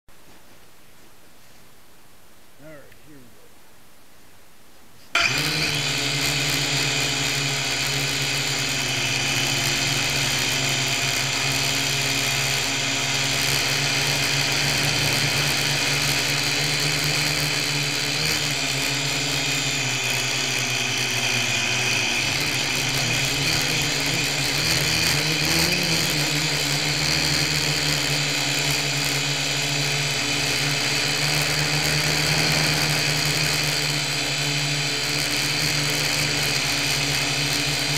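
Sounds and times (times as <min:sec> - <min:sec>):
toy drone motors whining: 0:05.2 - 0:37.9.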